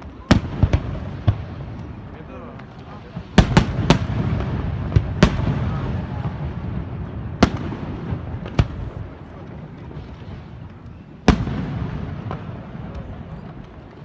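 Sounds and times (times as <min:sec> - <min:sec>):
fireworks bangs: 0:00.0 - 0:14.0
fireworks rumble and crackle: 0:00.0 - 0:14.0.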